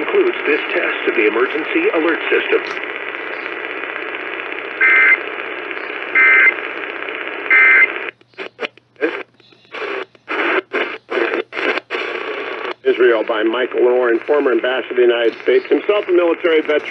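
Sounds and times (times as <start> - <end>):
radio static hiss: 0.0 - 16.9
radio stations tuning in and out: 0.0 - 16.9.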